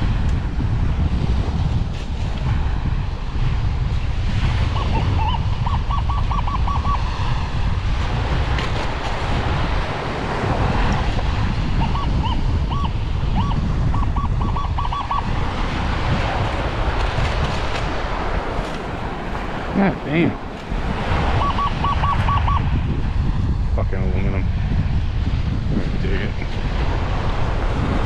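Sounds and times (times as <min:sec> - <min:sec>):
surf rumbling: 0:00.0 - 0:28.0
wind buffeting microphone: 0:00.0 - 0:28.0.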